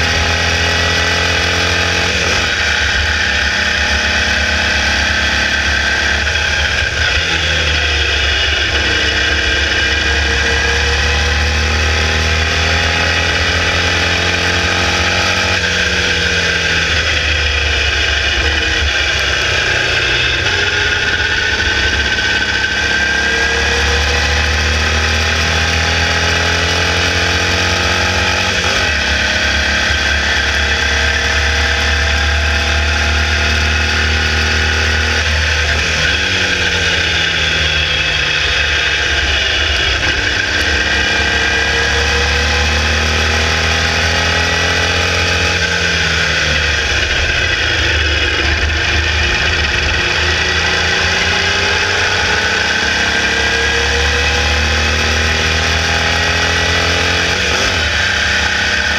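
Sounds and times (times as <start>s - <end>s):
racing car engine at full throttle: 0.0s - 58.9s.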